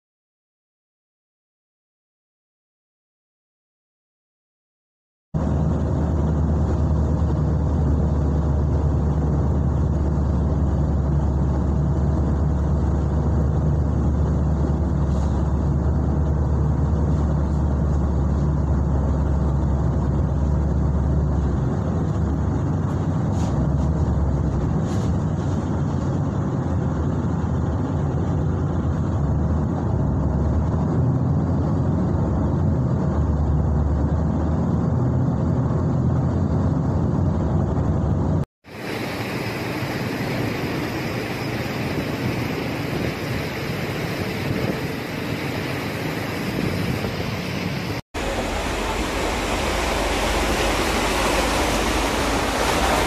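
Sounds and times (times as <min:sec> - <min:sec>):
motor vehicle rumbling: 0:05.4 - 0:38.5, 0:39.6 - 0:53.0.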